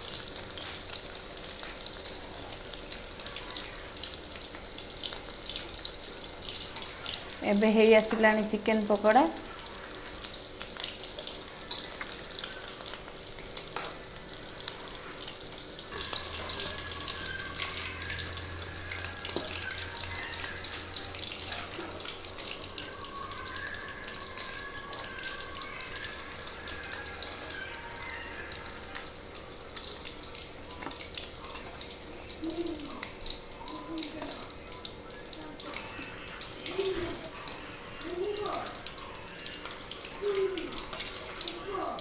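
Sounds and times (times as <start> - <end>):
oil bubbling and sizzling: 0.0 - 42.0.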